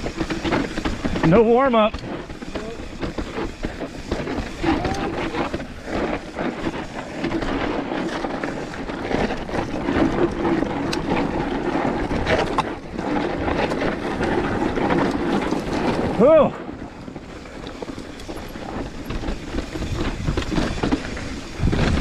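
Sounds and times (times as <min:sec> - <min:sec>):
bike rattling: 0:00.0 - 0:22.0
tyres crunching over dirt and stones: 0:00.0 - 0:22.0
wind on microphone: 0:00.0 - 0:22.0.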